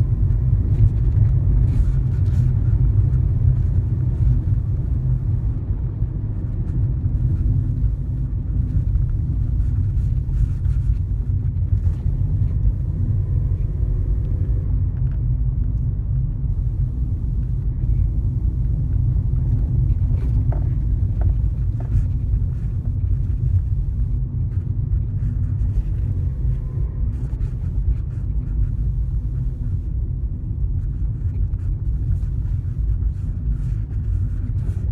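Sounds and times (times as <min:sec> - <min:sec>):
car interior road rumble: 0:00.0 - 0:34.9.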